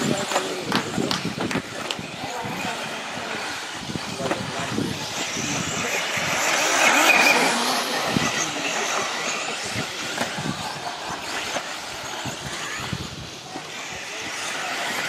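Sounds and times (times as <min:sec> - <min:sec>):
electric motors whining: 0:00.0 - 0:15.0
tyres on loose dirt: 0:00.0 - 0:15.0.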